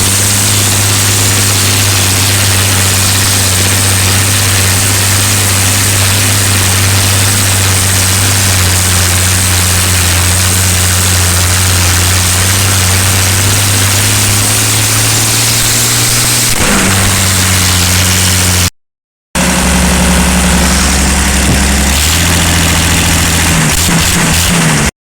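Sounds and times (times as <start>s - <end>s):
tractor engine running: 0.0s - 18.7s, 19.4s - 24.9s.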